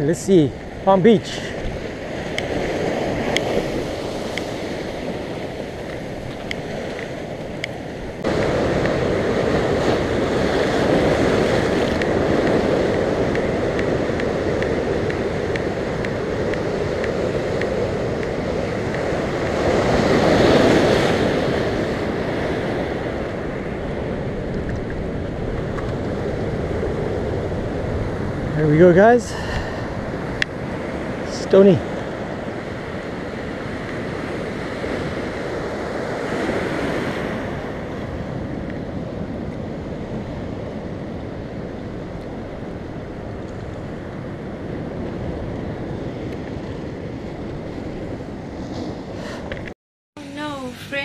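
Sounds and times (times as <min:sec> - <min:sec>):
wind buffeting microphone: 0:00.0 - 0:49.7
surf breaking over rocks: 0:00.4 - 0:51.0.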